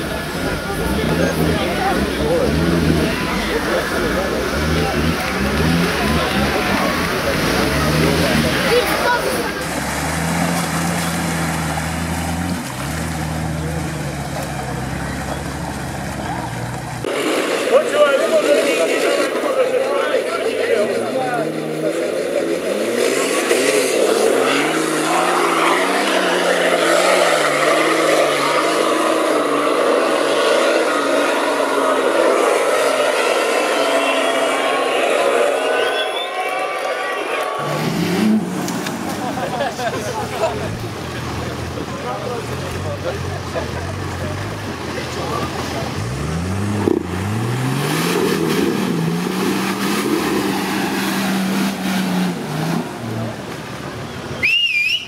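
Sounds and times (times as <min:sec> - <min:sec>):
engine revving hard under load: 0:00.0 - 0:19.6, 0:20.7 - 0:36.0, 0:37.4 - 0:53.5.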